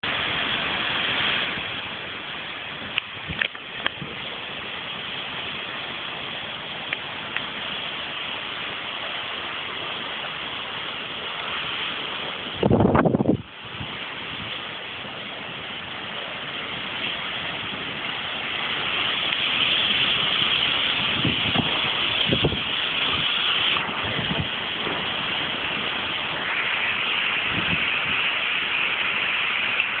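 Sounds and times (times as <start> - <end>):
heavy rain on rooftops: 0.0 - 30.0.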